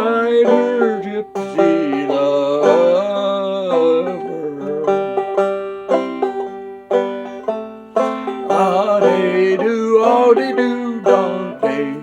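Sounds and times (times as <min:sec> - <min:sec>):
banjo playing folk tune: 0:00.0 - 0:12.0.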